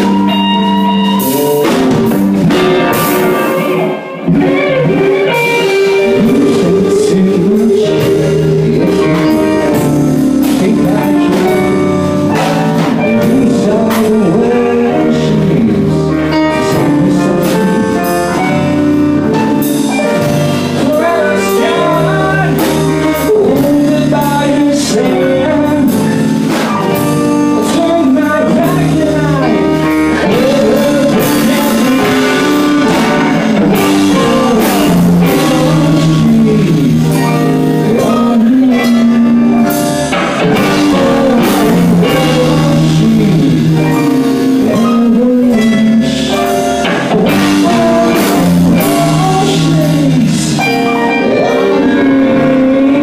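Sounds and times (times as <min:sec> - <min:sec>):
drums: 0:00.0 - 0:53.0
electric guitars: 0:00.0 - 0:53.0
keyboard: 0:00.0 - 0:53.0.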